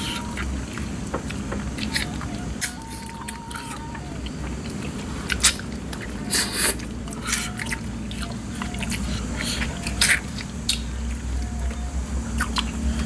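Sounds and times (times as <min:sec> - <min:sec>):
wet smacking and biting: 0:00.1 - 0:11.7.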